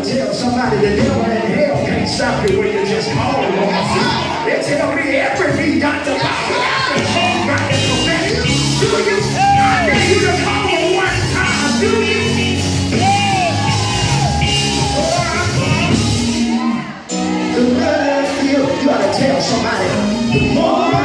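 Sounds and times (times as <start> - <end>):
man singing and shouting gospel: 0.0 - 16.2, 17.4 - 21.0
loud church music: 0.0 - 21.0.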